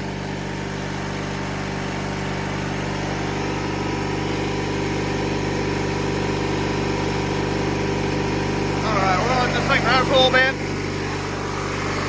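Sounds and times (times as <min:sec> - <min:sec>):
lawnmower engine idling: 0:00.0 - 0:12.0.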